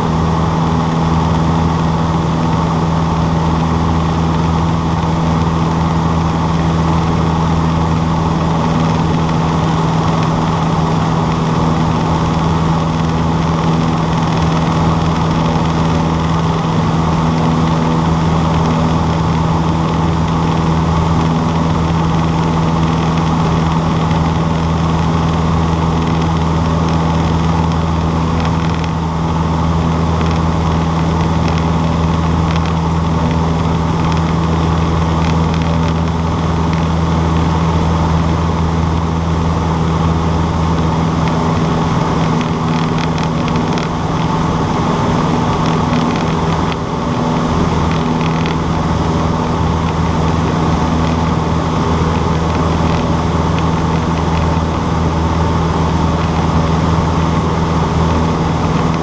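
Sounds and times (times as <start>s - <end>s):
piston aircraft engine running: 0.0s - 59.0s.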